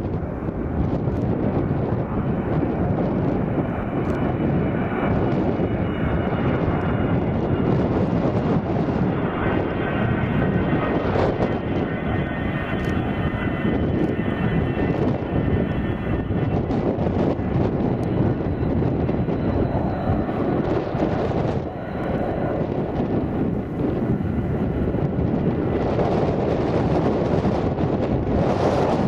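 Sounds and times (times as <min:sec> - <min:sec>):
jet engine whine: 0:00.0 - 0:29.0
jet engines roaring: 0:00.0 - 0:29.0.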